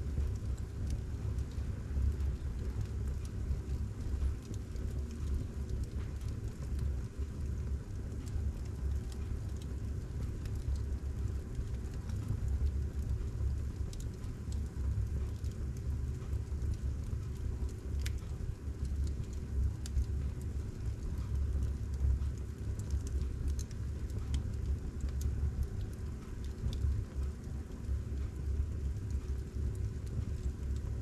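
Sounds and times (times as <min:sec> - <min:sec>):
fire crackles: 0:00.0 - 0:31.0
fire rumbling: 0:00.0 - 0:31.0.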